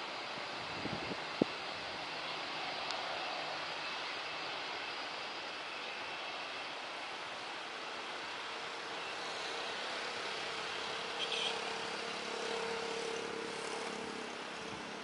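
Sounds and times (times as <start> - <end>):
distant jet engines hum: 0.0 - 15.0
traffic passing: 0.0 - 15.0.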